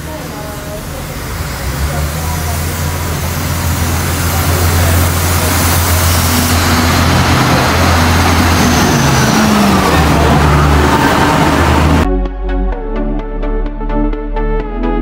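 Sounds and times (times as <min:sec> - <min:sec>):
train engine drone and wheel noise: 0:00.0 - 0:12.1.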